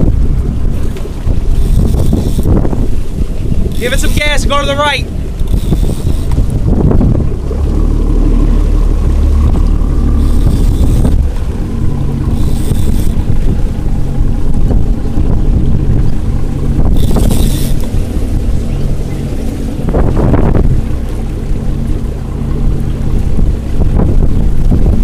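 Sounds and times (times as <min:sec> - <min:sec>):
boat engine running: 0:00.0 - 0:25.0
wind buffeting microphone: 0:00.0 - 0:25.0.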